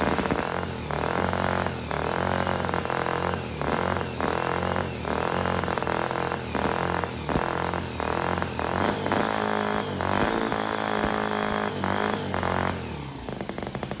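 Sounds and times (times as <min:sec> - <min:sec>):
model engine revving: 0:00.0 - 0:14.0.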